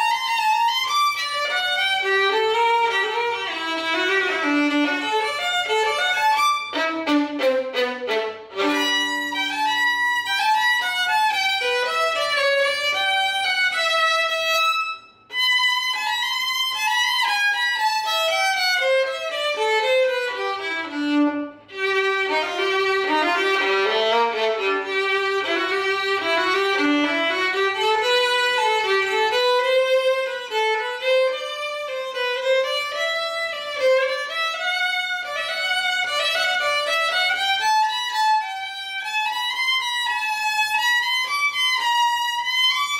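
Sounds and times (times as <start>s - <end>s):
solo violin melody: 0.0s - 42.9s.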